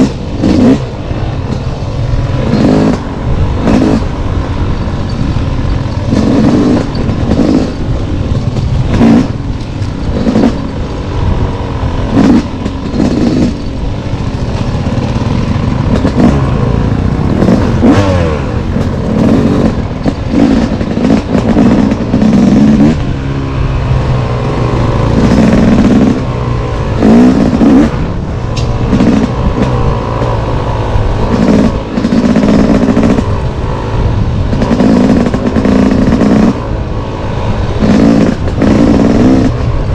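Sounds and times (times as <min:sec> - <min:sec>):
clatter: 0:00.0 - 0:23.2, 0:24.4 - 0:36.8, 0:37.7 - 0:39.9
dirt bike engine revving: 0:00.0 - 0:39.9
rumbling wind noise: 0:00.0 - 0:39.9.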